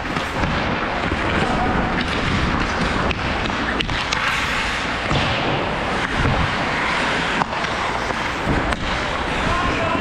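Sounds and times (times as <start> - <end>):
skates scraping on ice: 0.0 - 10.0.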